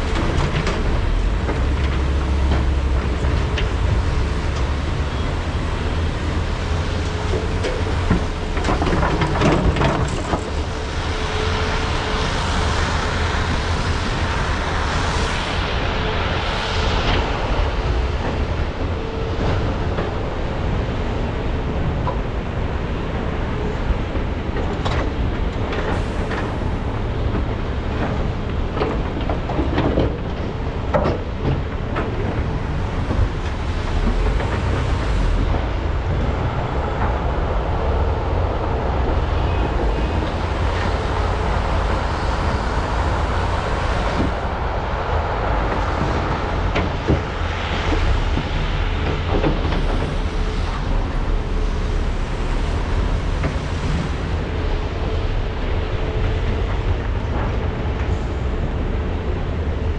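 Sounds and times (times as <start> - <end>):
excavator diesel engines rumbling: 0.0 - 59.9.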